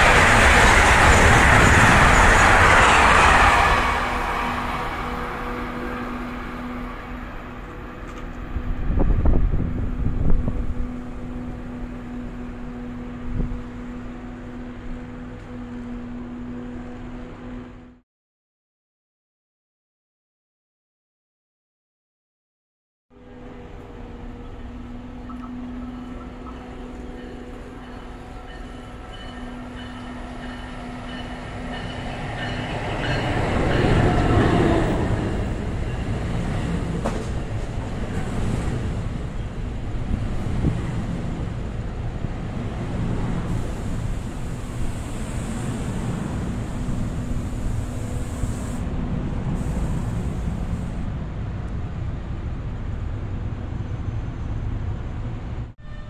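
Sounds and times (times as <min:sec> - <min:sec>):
passenger train passing: 0:00.0 - 0:18.0, 0:23.1 - 0:56.0.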